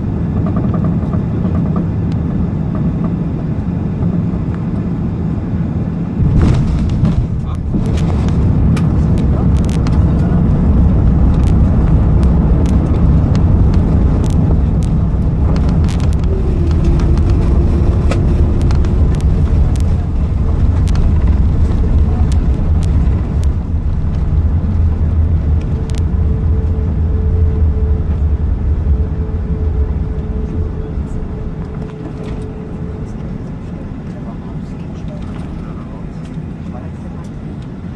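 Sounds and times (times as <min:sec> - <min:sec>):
jet engines rumbling: 0:00.0 - 0:37.9
faint steady whine: 0:02.5 - 0:37.9.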